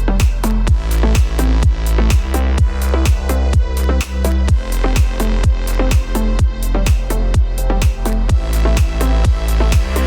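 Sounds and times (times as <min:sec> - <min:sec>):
electronic dance music: 0:00.0 - 0:07.2, 0:07.8 - 0:10.0.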